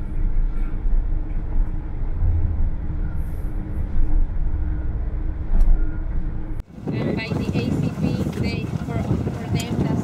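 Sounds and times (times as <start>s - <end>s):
faint hum: 0.0s - 8.1s
low engine rumble: 0.0s - 10.0s.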